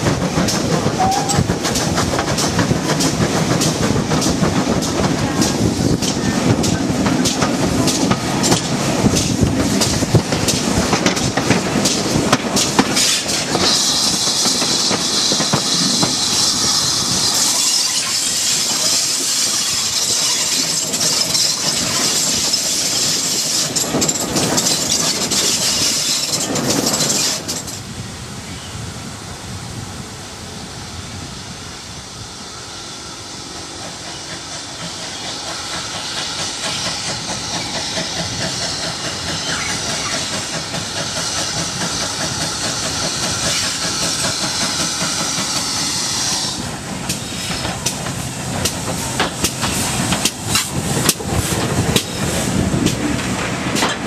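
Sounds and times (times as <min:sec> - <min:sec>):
train wheels clicking over rail joints: 0:00.0 - 0:27.9, 0:33.5 - 0:54.0
steam hiss: 0:00.0 - 0:54.0
steam locomotive approaching: 0:00.0 - 0:54.0.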